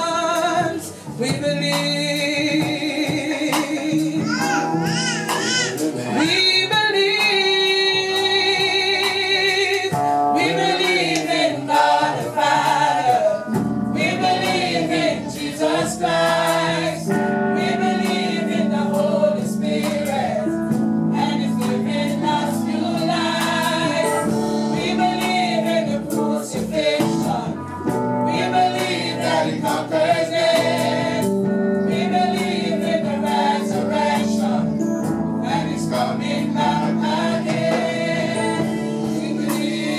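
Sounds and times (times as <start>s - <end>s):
group singing gospel music: 0.0s - 39.9s
instrumental accompaniment: 0.0s - 39.9s.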